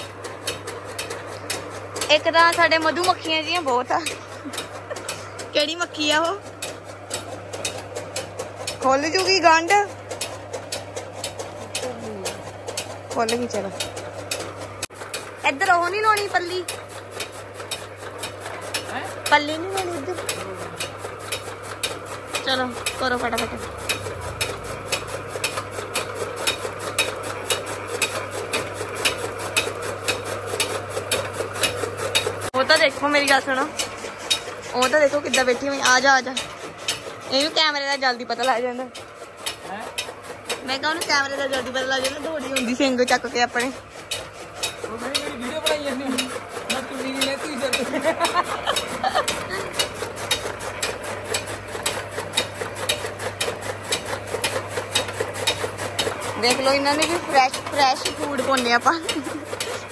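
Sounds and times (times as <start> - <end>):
chaff cutter blades chopping: 0.0 - 59.9
low machine hum: 0.0 - 59.9.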